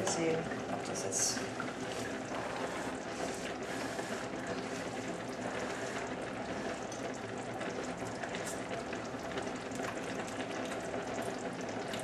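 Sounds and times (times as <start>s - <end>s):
pasta water boiling: 0.0s - 12.0s.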